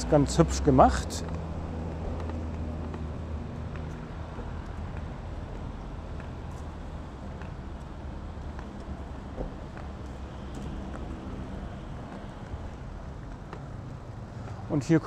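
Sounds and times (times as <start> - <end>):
faint street noise: 0.0 - 15.0.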